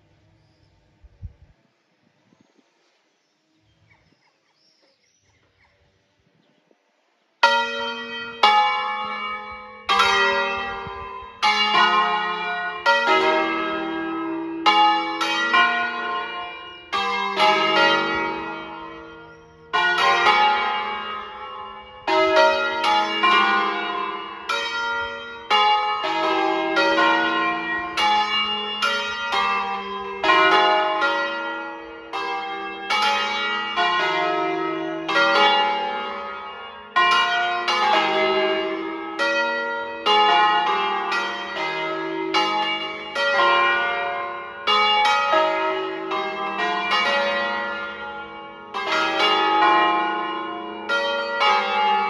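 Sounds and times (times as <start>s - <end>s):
church bells ringing: 7.4s - 52.0s.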